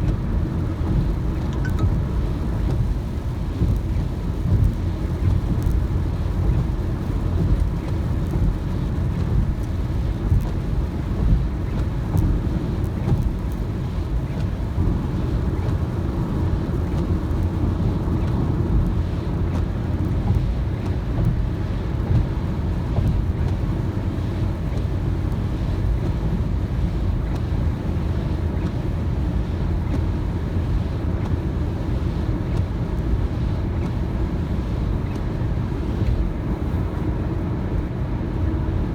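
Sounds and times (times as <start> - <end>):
car driving on wet road: 0.0 - 38.9.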